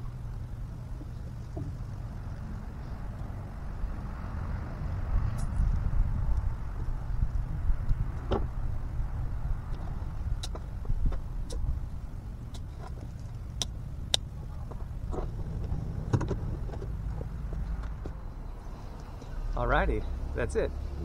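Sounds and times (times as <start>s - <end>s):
steady low rumble: 0.0s - 20.5s.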